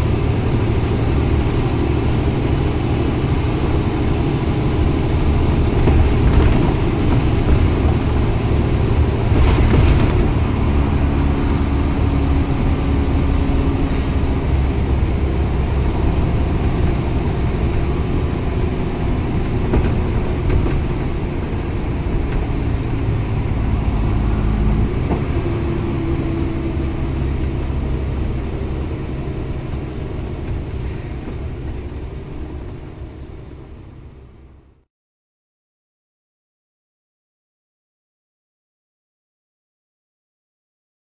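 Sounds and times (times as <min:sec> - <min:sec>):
bus diesel engine running hard: 0:00.0 - 0:34.9.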